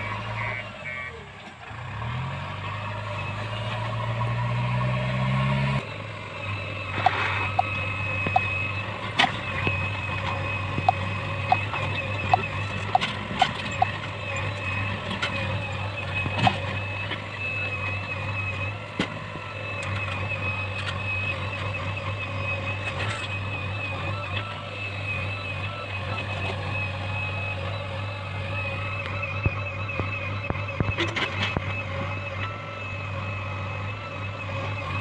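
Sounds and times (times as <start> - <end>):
diesel engine humming: 0.0 - 35.0
high-pitched whine: 2.7 - 35.0.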